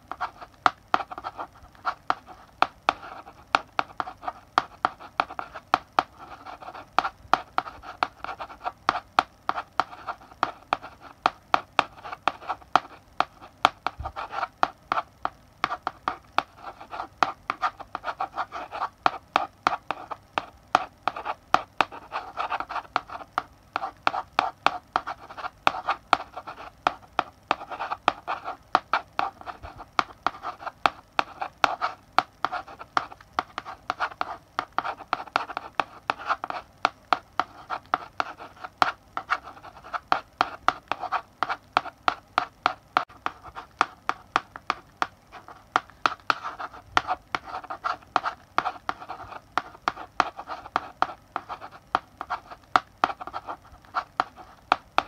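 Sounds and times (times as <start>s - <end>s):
chalk tapping on blackboard: 0.0s - 55.0s
chalk scratching on blackboard: 0.1s - 55.0s.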